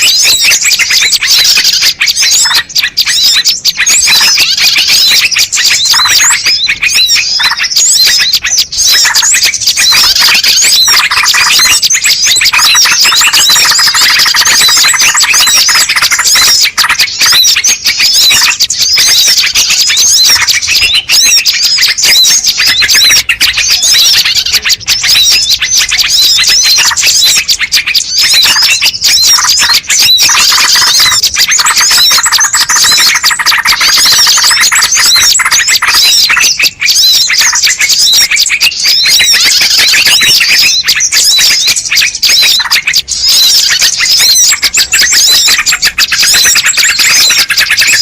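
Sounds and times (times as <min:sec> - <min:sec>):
lower chattering bird calls: 0:00.0 - 0:48.0
small birds chirping: 0:00.0 - 0:48.0.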